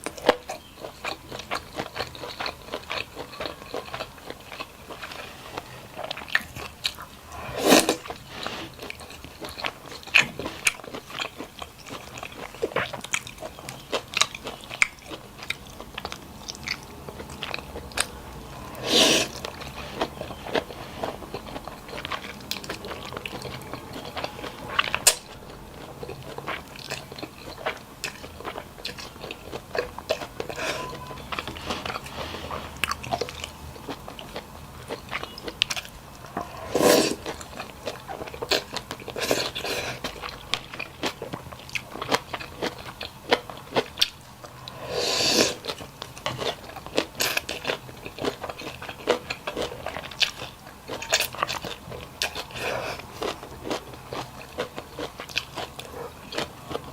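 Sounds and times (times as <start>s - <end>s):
chewing and crunching: 0.0s - 56.9s.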